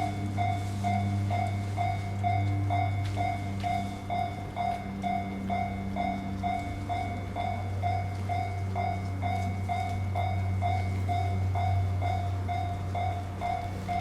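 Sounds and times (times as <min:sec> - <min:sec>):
level crossing bell ringing: 0:00.0 - 0:14.0
steady low hum: 0:00.0 - 0:14.0.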